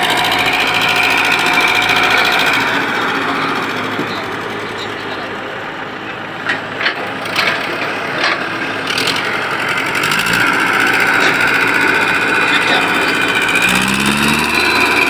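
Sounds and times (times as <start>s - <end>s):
steady whine: 0.0s - 15.0s
tractor diesel engine running: 0.0s - 15.0s.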